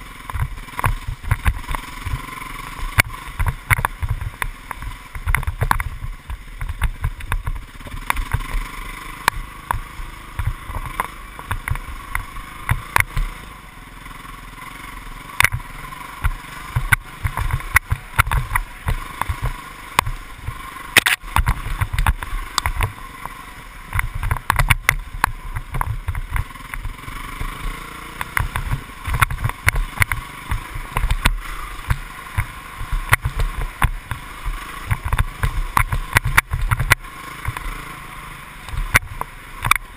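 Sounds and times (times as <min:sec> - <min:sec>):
muffled motorbike engine: 0:00.0 - 0:39.9
knocks and bumps: 0:00.3 - 0:02.3, 0:02.9 - 0:08.6, 0:09.2 - 0:13.3, 0:15.4 - 0:23.0, 0:23.9 - 0:27.6, 0:28.2 - 0:37.7.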